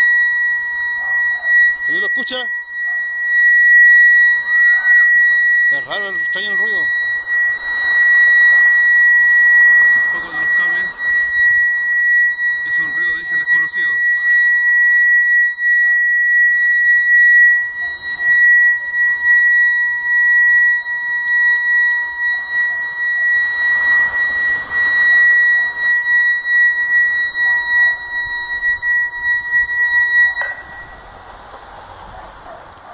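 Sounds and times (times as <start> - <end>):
loud steady high-pitched tone: 0.0 - 32.9.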